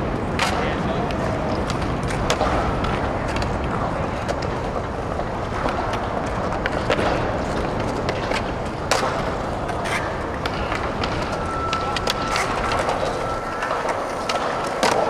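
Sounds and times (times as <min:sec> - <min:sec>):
skateboard wheels rolling on concrete: 0:00.0 - 0:15.0
skateboard popping and landing clacks: 0:00.3 - 0:15.0.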